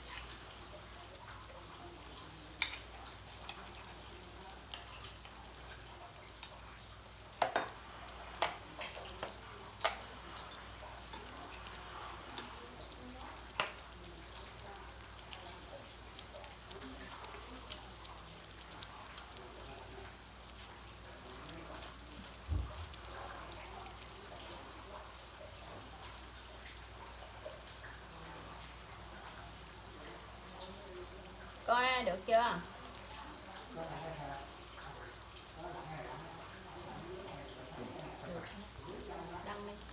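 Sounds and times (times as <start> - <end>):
cakes sizzling in hot oil: 0.0 - 39.9
oil popping and crackling: 0.0 - 39.9.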